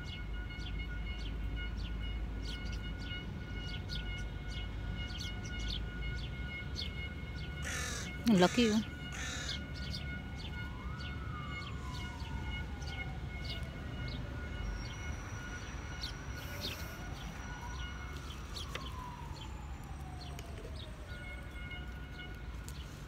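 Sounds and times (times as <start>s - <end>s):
siren wailing: 0.0s - 23.0s.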